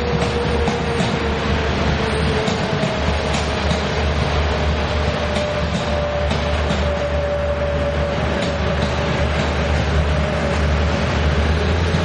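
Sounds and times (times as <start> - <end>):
diesel train passing: 0.0 - 12.0
wheels clacking over rail joints: 0.0 - 12.0.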